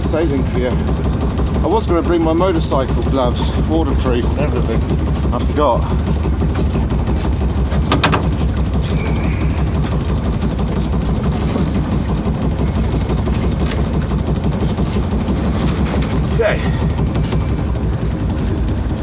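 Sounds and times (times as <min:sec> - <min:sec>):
boat engine droning: 0:00.0 - 0:19.0
water noise: 0:00.0 - 0:19.0
wind: 0:00.0 - 0:19.0.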